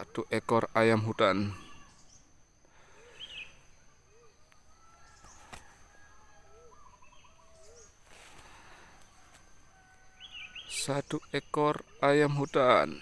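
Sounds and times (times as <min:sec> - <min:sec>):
bird chirps and trill: 0:00.0 - 0:08.0, 0:10.1 - 0:13.0.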